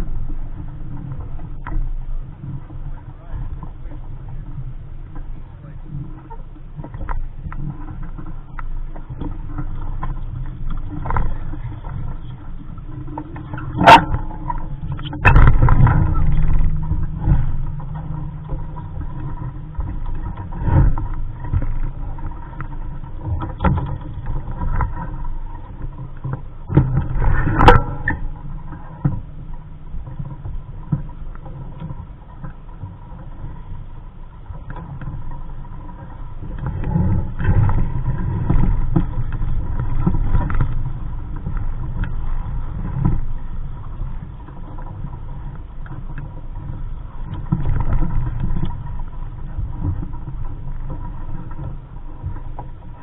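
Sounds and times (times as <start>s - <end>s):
steady rumbling noise: 0.0s - 53.0s.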